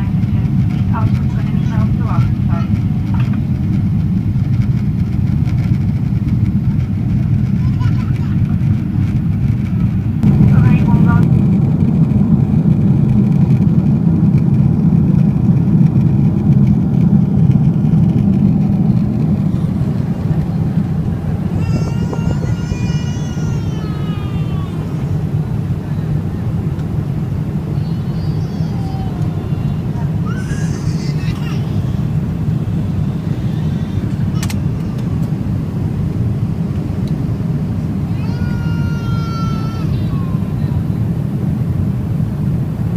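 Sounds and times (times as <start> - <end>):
jet engine rumble inside cabin: 0.0 - 42.9.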